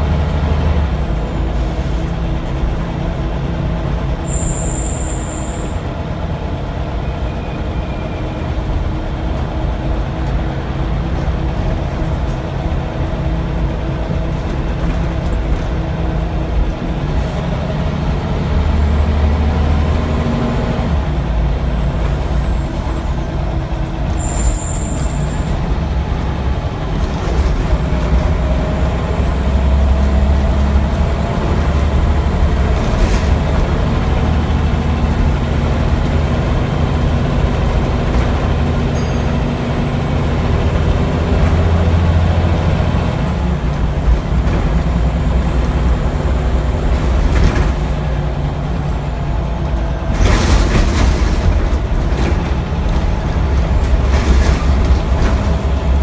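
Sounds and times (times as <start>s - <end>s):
bus diesel engine rumbling: 0.0s - 56.0s
road noise: 0.0s - 56.0s.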